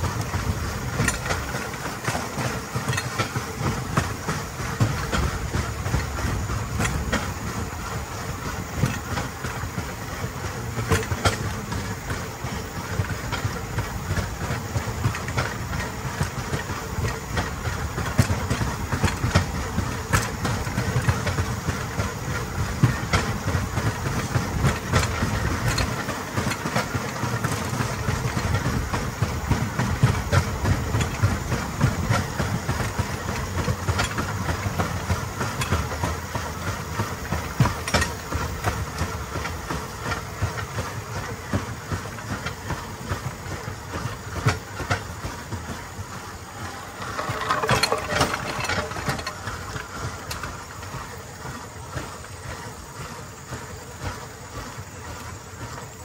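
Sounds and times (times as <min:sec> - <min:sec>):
steel wheels rumbling on track: 0:00.0 - 0:56.0
wheels clacking over rail joints: 0:00.0 - 0:56.0.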